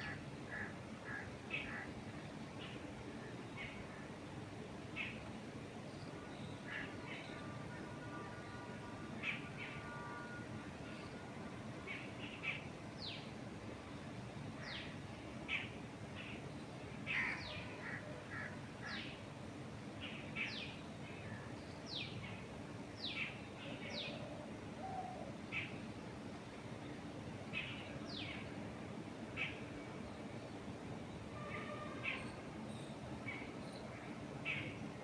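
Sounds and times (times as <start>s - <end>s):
wind through trees: 0.0s - 35.0s.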